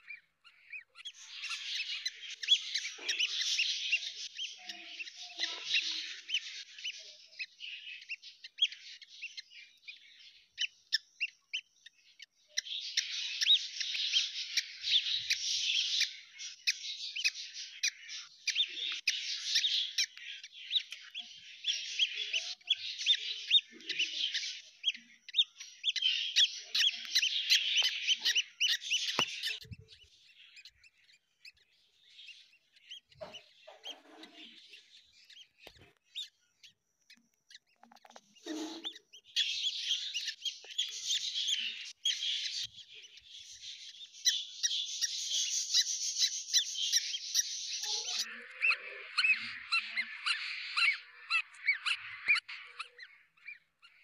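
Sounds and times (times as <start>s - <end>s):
rapid high-pitched bird chirping: 0.0s - 54.0s.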